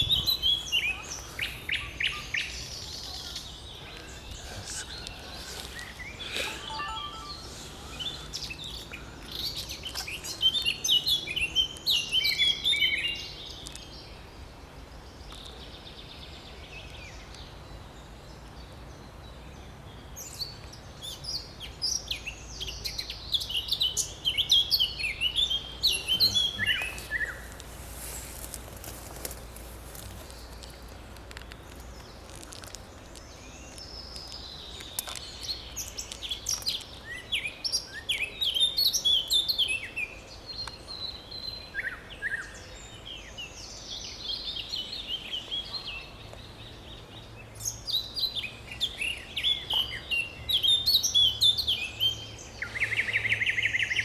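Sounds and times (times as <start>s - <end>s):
songbird chattering song: 0.0s - 54.0s.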